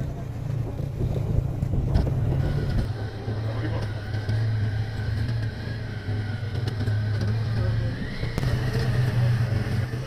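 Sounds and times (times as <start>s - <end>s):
high engine whine: 0.0s - 10.0s
motorcycle engine droning: 0.0s - 10.0s.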